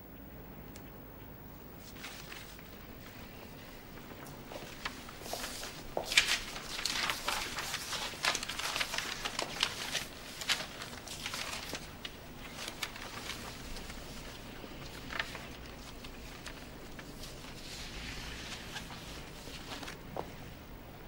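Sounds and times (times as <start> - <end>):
paper sheets rustling: 1.8 - 20.7.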